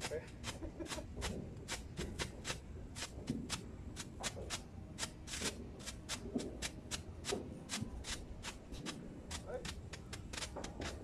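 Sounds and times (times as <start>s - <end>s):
firework pops: 0.0s - 11.0s
ground firework sputtering and crackling: 0.0s - 11.0s.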